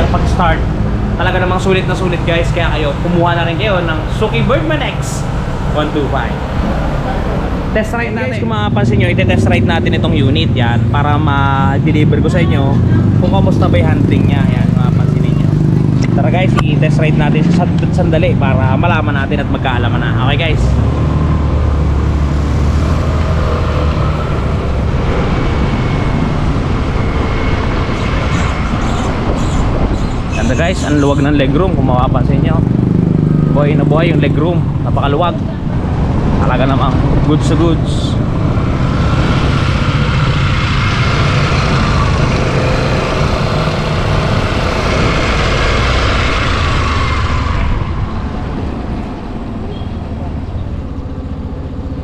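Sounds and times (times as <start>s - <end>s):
faint rising whine: 0.0s - 52.0s
scooter engine rumbling: 0.0s - 52.0s
wind and road noise: 0.0s - 52.0s.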